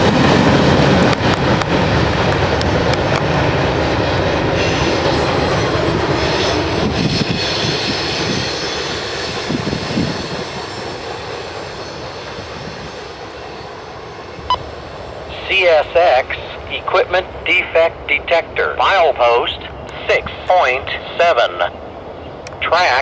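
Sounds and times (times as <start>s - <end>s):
freight train wheels rolling on rails: 0.0s - 22.7s.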